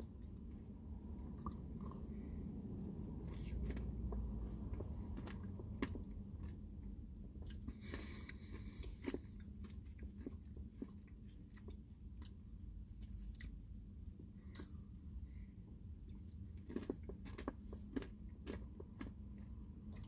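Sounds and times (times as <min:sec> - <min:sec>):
steady low hum: 0:00.0 - 0:20.0
quiet chewing: 0:00.2 - 0:13.6, 0:14.4 - 0:15.0, 0:16.0 - 0:20.0.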